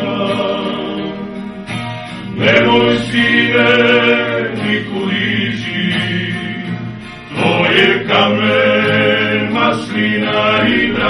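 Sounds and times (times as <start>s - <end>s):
patriotic song with voices: 0.0s - 11.0s.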